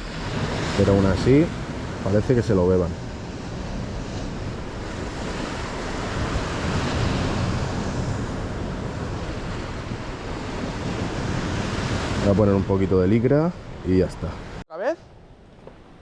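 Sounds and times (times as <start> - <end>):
sea surf washing on shore: 0.0 - 14.6
wind on microphone: 0.0 - 14.6.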